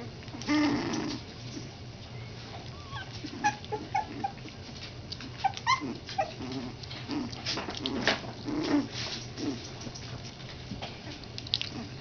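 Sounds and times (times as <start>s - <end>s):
puppies whimpering and squeaking: 0.0s - 12.0s.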